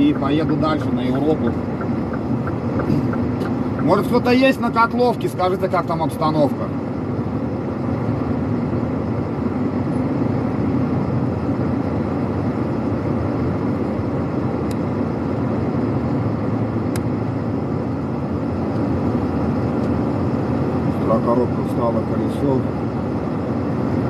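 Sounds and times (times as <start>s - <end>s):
truck engine drone: 0.0s - 24.0s
tyre and road noise on snow: 0.0s - 24.0s.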